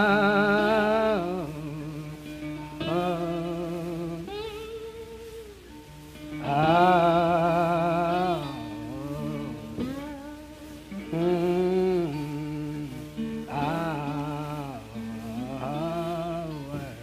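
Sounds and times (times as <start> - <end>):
guitar: 0.0 - 17.0.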